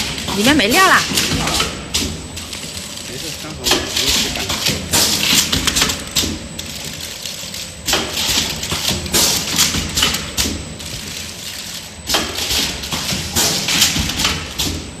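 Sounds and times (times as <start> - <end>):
low machine hum: 0.0 - 15.0
machine hissing and clattering: 0.0 - 15.0.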